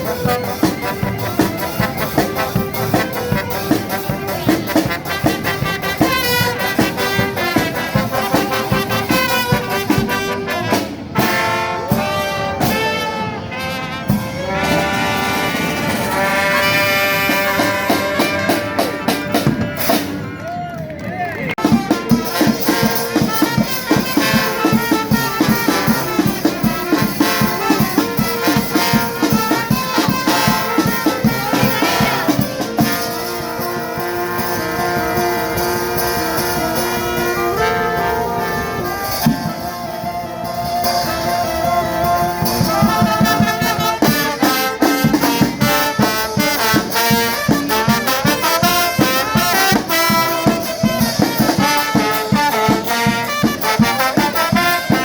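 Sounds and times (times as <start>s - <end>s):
driving drum beat: 0.0s - 20.4s, 21.5s - 55.0s
trumpets and trombones: 0.0s - 20.9s, 21.5s - 55.0s.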